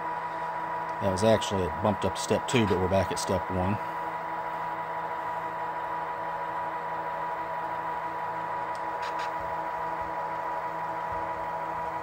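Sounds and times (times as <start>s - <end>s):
diesel engine sound through small speaker: 0.0s - 12.0s.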